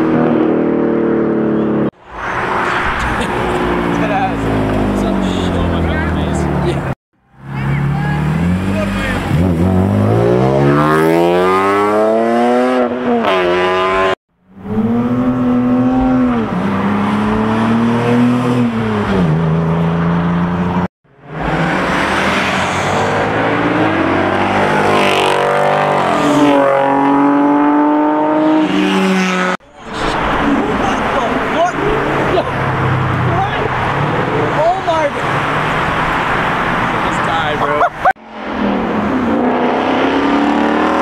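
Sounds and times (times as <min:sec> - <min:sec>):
car engine revving hard: 0:07.8 - 0:41.0.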